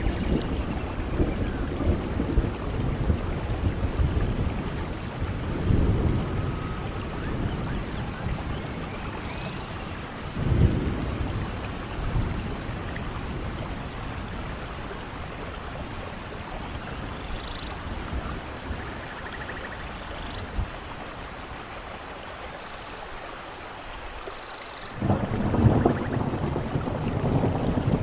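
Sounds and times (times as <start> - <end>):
low thunder rumble: 0.0 - 21.0, 25.0 - 28.0
steady rain falling: 0.0 - 28.0.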